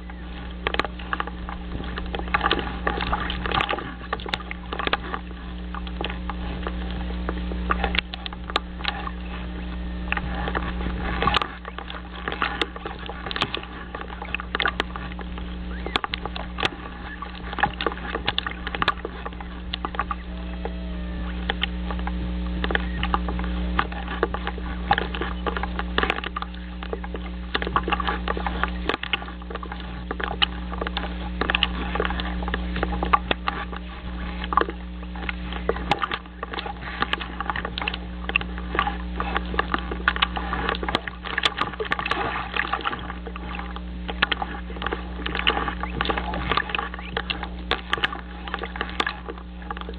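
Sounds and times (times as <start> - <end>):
electrical hum: 0.0 - 49.9
lake water lapping and splashing: 0.0 - 49.9.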